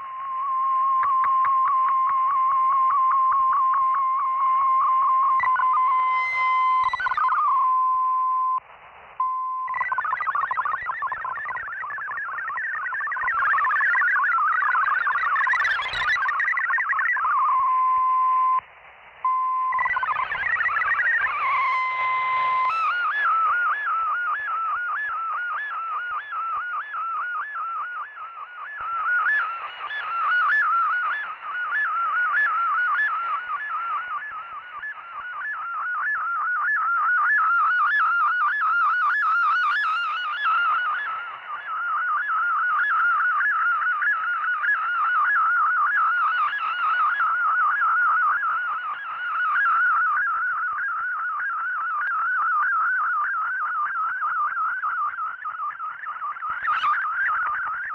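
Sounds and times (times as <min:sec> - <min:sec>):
warbling data tones: 0:00.0 - 0:08.6, 0:09.2 - 0:57.9
steady single radio tone: 0:00.0 - 0:57.9.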